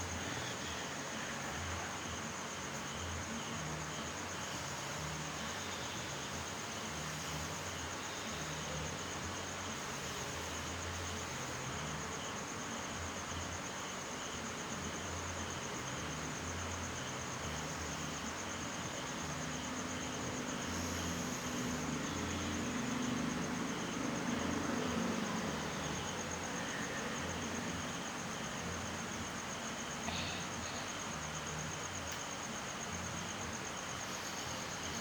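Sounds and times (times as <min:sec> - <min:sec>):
constant hiss: 0:00.0 - 0:35.0
cricket trill: 0:00.0 - 0:35.0.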